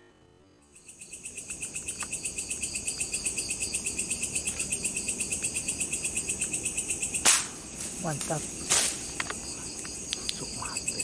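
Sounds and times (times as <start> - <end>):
crickets chirping: 0.5 - 11.0.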